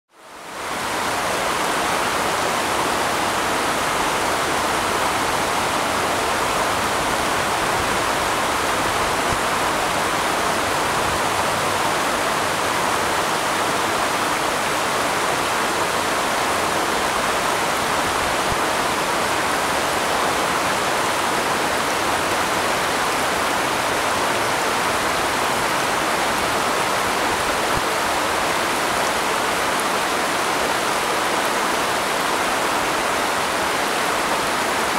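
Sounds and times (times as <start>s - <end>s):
rushing flowing water: 0.1s - 34.9s.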